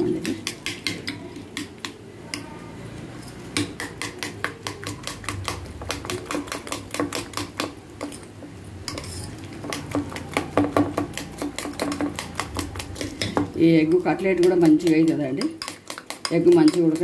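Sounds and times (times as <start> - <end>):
metal spoon beating eggs in bowl: 0.0 - 2.5, 3.2 - 17.0.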